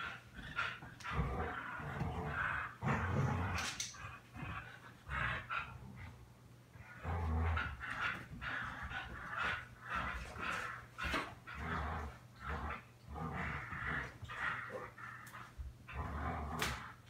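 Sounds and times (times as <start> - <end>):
dogs growling in play: 0.0 - 17.0.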